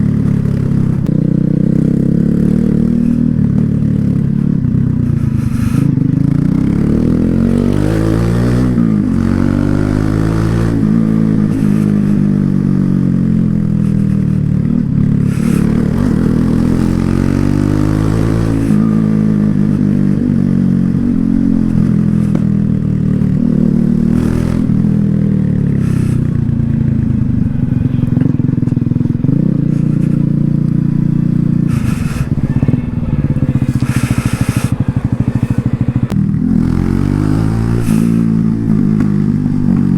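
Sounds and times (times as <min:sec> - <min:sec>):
motorcycle exhaust revving: 0:00.0 - 0:39.9.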